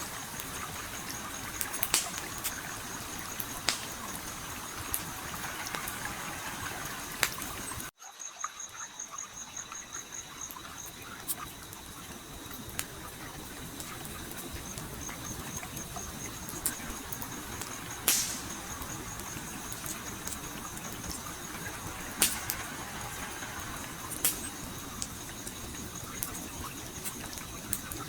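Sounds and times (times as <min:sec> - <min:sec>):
campfire crackling and popping: 0:00.0 - 0:07.9, 0:09.3 - 0:28.0
flowing stream: 0:00.0 - 0:28.0.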